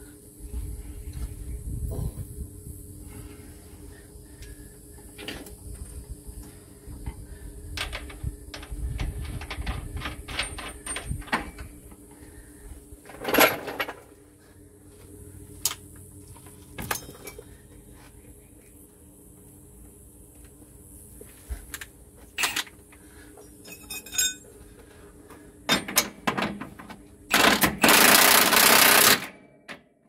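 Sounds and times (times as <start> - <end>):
low steady hum: 0.0 - 29.7.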